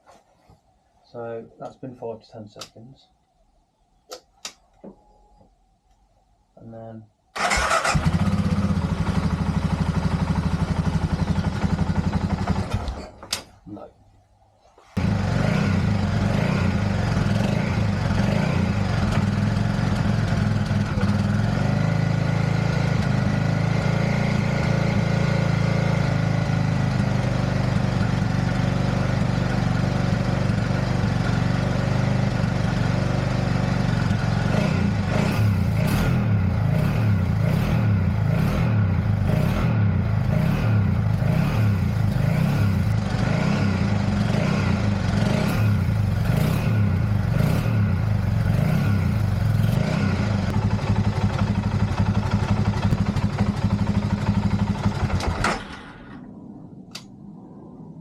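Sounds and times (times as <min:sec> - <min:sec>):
motorcycle engine stuttering: 0:07.4 - 0:13.0, 0:15.0 - 0:55.9.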